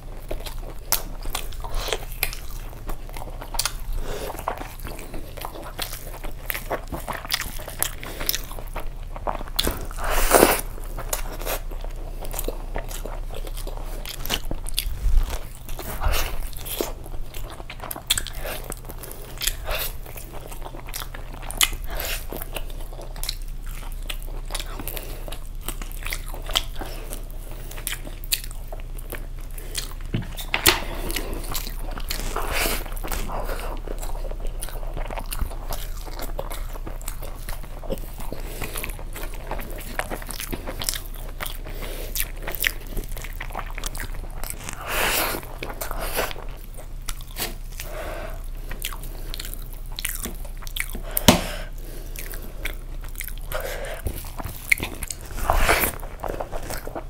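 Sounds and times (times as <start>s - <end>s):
crunches of chewing: 0.0s - 57.0s
man chewing meat: 0.0s - 57.0s.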